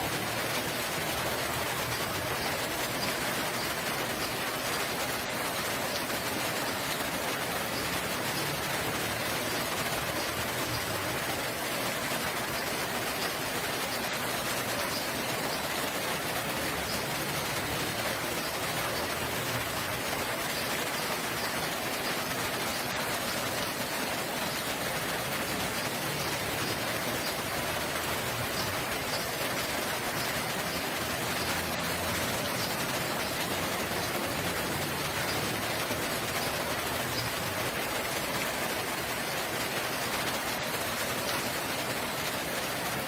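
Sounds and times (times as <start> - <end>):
rain pattering: 0.0 - 43.0.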